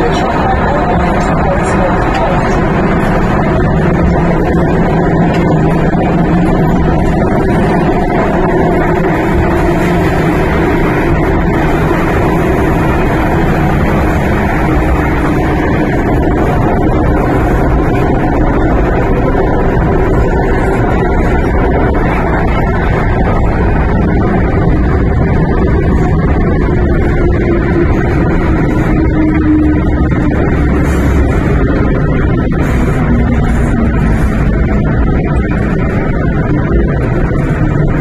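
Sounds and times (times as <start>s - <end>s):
train running through tunnel: 0.0s - 38.0s.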